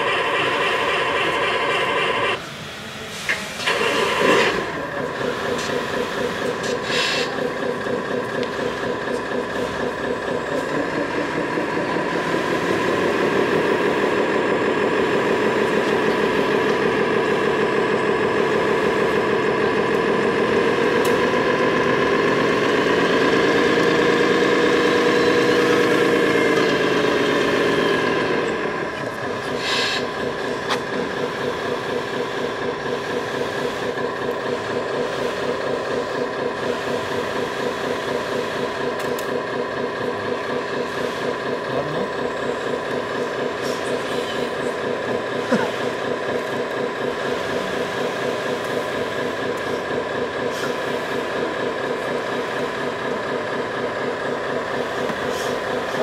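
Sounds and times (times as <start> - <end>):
model machines humming and whining: 0.0 - 56.0.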